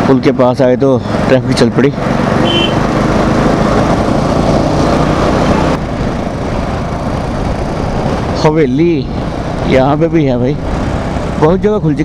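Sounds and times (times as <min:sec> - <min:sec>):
motorcycle riding in traffic: 0:00.0 - 0:12.0
wind and road noise: 0:00.0 - 0:12.0.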